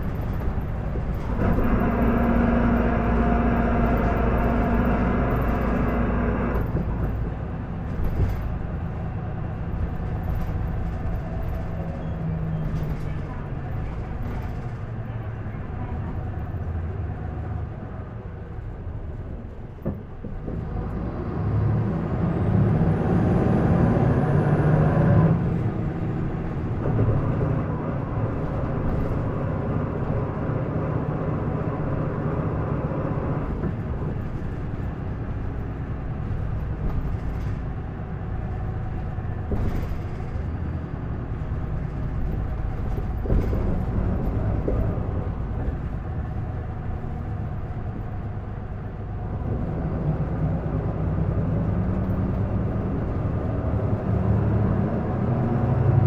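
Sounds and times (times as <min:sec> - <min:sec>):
bus diesel engine pulling hard: 0:00.0 - 0:56.0.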